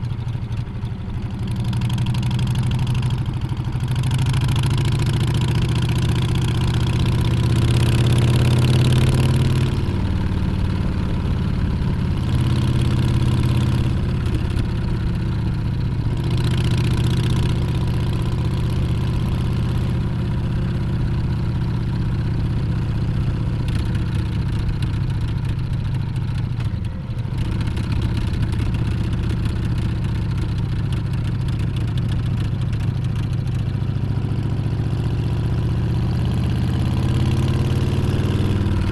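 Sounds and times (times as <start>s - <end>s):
motorcycle engine on the road: 0.0s - 38.9s.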